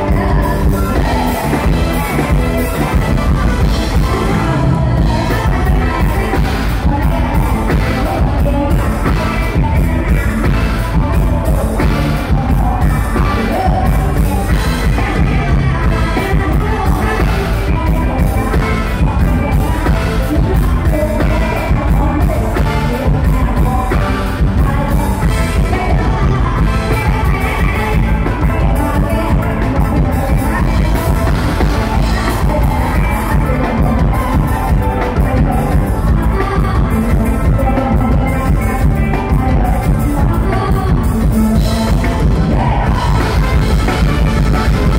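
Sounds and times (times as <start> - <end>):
live band music: 0.0 - 44.9
steady drum beat: 0.0 - 44.9
woman singing: 0.0 - 44.9.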